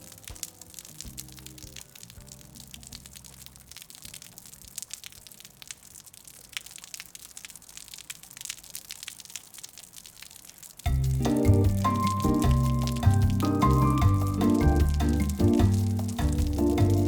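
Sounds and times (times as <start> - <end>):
rain hissing with drop ticks: 0.0 - 17.0.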